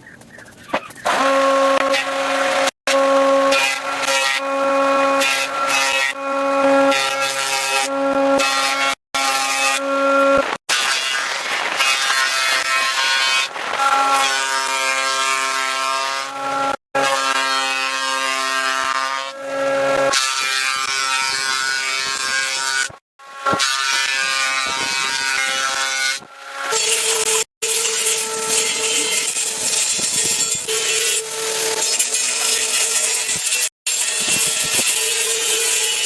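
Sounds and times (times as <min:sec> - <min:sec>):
saw cutting into wood: 0:00.8 - 0:36.0.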